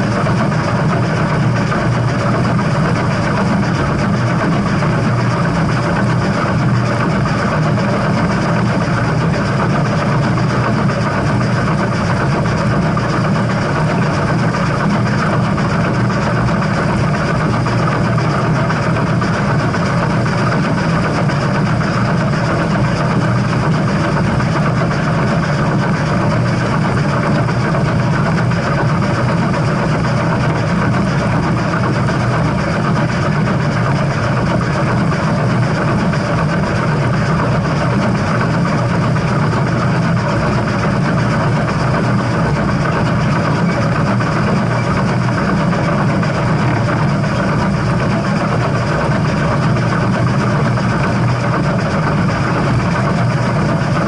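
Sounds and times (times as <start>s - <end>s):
steam train rumbling: 0.0s - 54.0s.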